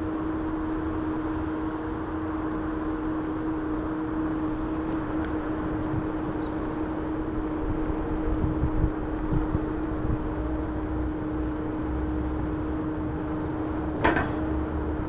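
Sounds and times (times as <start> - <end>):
electric scooter motor hum: 0.0 - 15.0
road noise: 0.0 - 15.0
wind rumble: 2.7 - 15.0.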